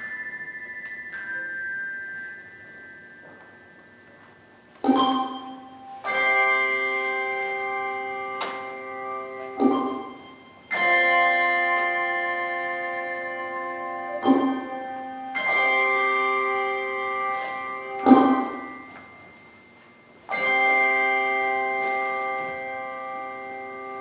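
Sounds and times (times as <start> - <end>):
handbell choir playing chords: 0.0 - 24.0.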